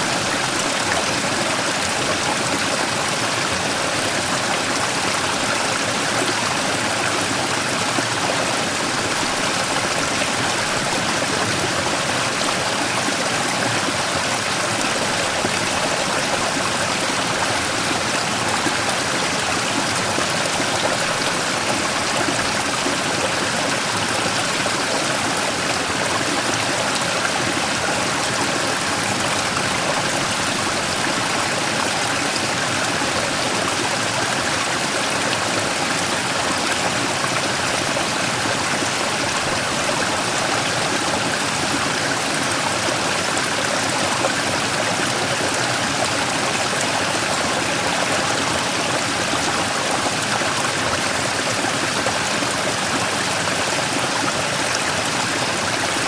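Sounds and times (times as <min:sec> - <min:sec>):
stream rushing over rock: 0:00.0 - 0:56.0.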